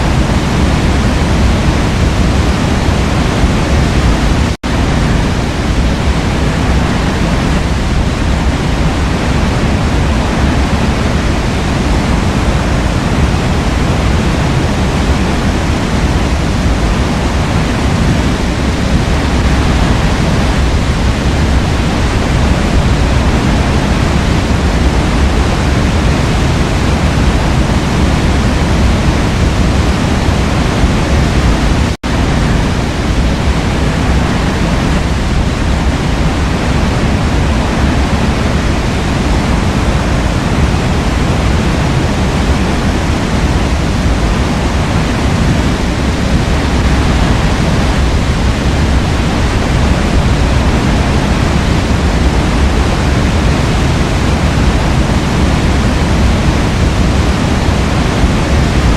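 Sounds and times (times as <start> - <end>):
waterfall roaring: 0.0 - 58.9.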